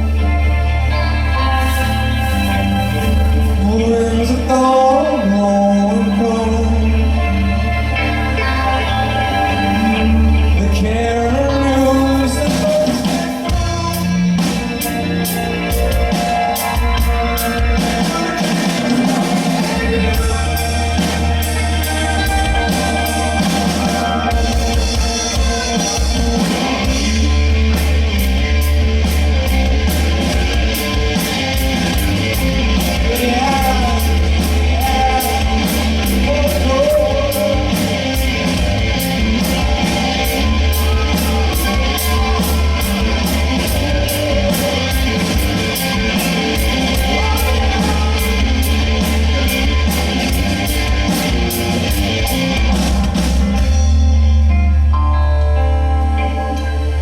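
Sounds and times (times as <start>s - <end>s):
live rock band playing: 0.0s - 57.0s
person singing: 0.1s - 27.8s, 31.9s - 51.4s.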